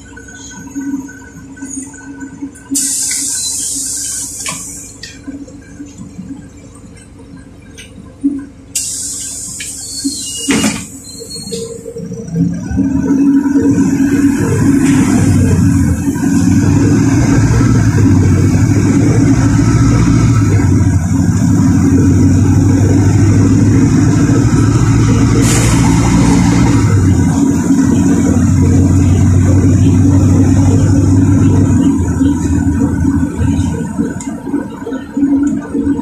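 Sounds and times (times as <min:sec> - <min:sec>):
bus engine running: 0:00.0 - 0:36.0.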